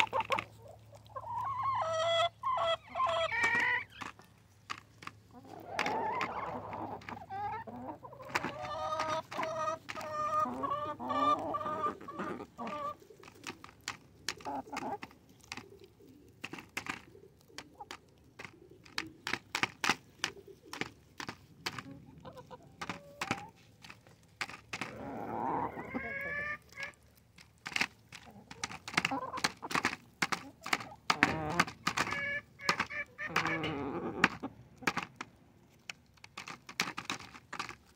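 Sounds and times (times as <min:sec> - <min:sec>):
hens clucking: 0:00.0 - 0:37.9.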